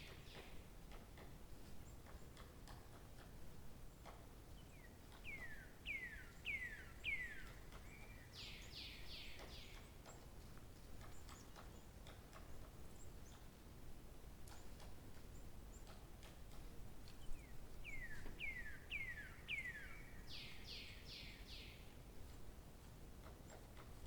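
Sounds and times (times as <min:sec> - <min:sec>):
songbird singing: 0:00.0 - 0:02.5, 0:03.9 - 0:13.6, 0:14.5 - 0:22.4
faint outdoor background noise: 0:00.0 - 0:24.0.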